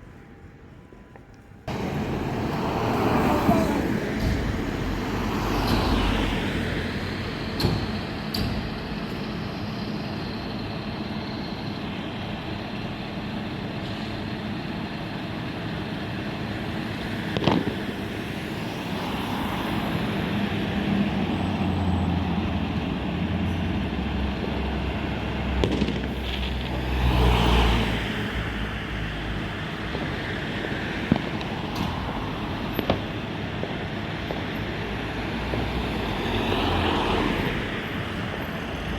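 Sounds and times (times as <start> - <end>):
road traffic: 0.0 - 38.9
heavy vehicle rumbling past: 1.7 - 38.9.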